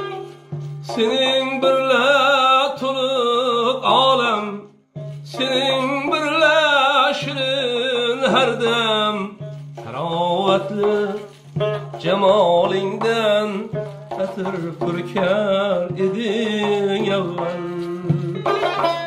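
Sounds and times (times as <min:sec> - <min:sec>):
man singing with vibrato: 0:00.0 - 0:19.0
plucked lute: 0:00.0 - 0:19.0.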